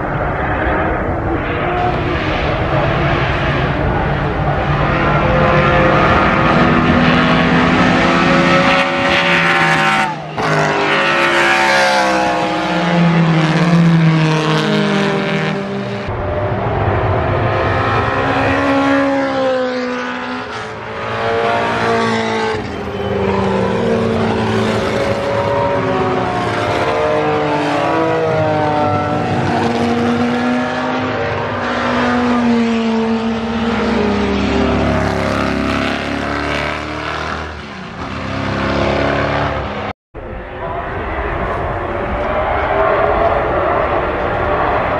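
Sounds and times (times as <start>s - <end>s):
racing cars passing at speed: 0.0s - 44.9s.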